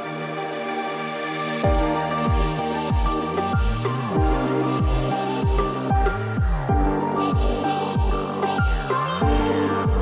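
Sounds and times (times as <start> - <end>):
electronic music: 0.0 - 10.0
deep kick drums: 1.7 - 10.0.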